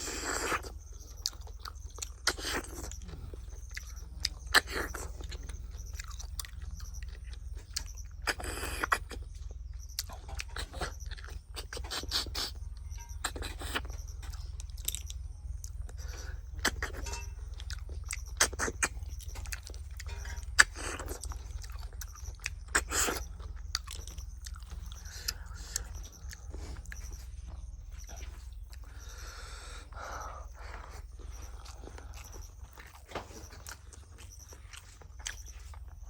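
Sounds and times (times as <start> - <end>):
chewing and mouth smacks: 0.0 - 36.0
steady low hum: 0.0 - 36.0.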